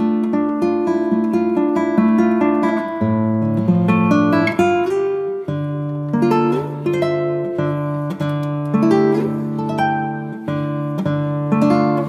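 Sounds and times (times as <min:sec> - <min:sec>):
acoustic guitar melody: 0:00.0 - 0:12.0.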